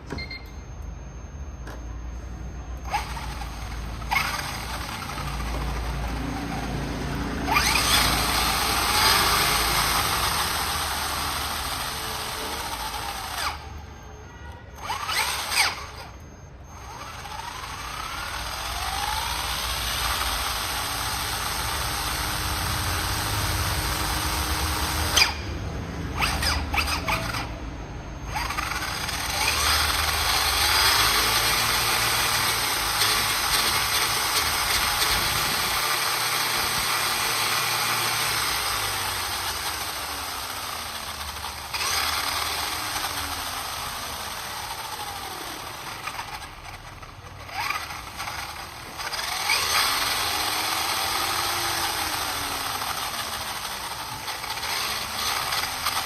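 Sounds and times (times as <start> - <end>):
handheld power tool whining: 0.0 - 56.0.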